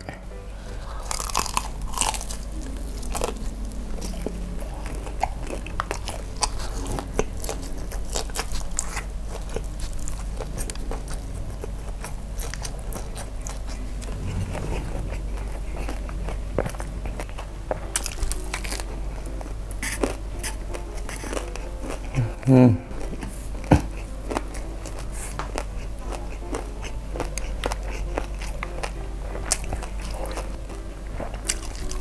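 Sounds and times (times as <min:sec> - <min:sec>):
person biting and chewing: 0:00.0 - 0:32.0.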